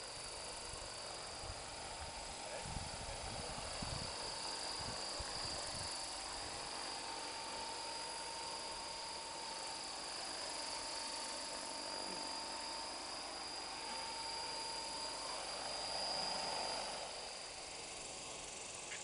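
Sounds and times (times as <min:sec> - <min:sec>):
model helicopter rotor whine: 0:00.0 - 0:19.0.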